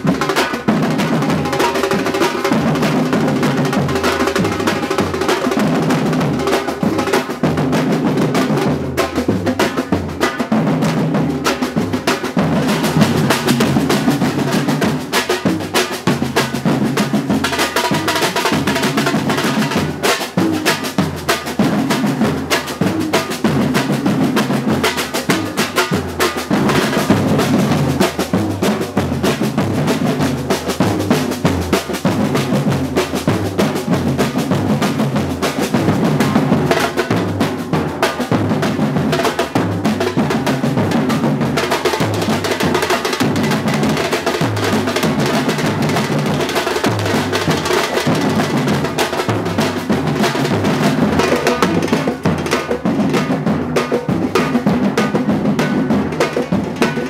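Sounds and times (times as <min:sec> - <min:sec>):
fast snare drum strokes: 0:00.0 - 0:57.0
surdo bass drums: 0:00.0 - 0:57.0.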